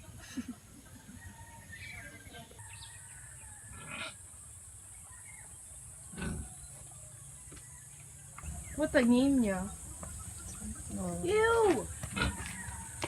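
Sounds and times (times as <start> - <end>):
faint farm animal calls: 0.0 - 13.0.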